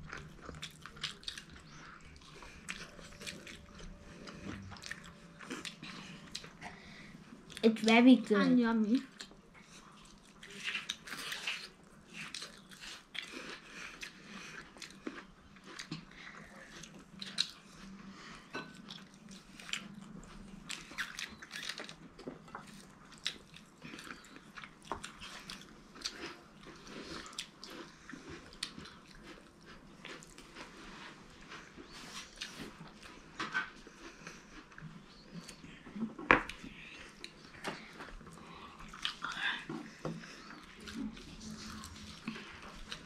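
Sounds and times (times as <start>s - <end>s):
chewing crunchy fried chicken: 0.0s - 7.8s, 9.0s - 43.0s.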